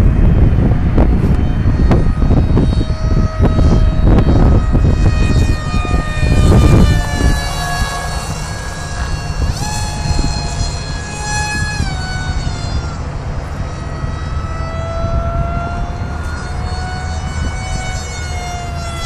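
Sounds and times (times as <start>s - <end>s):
electric motor and propeller whine: 0.0s - 19.0s
wind buffeting microphone: 0.0s - 19.0s.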